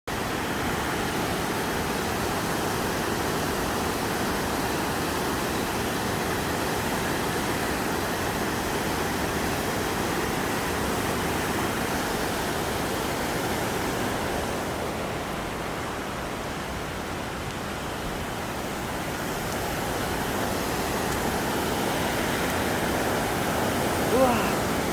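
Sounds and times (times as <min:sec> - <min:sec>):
stream floodwater rushing: 0:00.1 - 0:24.9.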